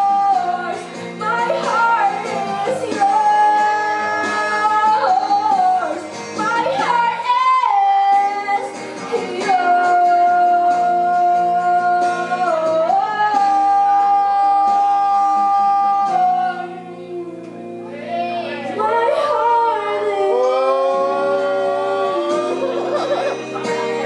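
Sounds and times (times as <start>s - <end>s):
woman singing a ballad: 0.0s - 17.6s, 18.6s - 22.9s
guitar accompaniment: 0.0s - 24.0s.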